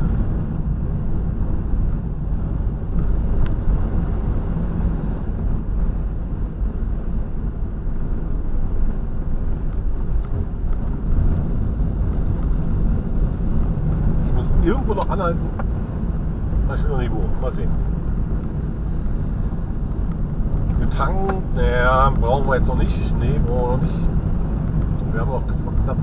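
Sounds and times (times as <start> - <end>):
van engine and tyre noise: 0.0 - 26.0.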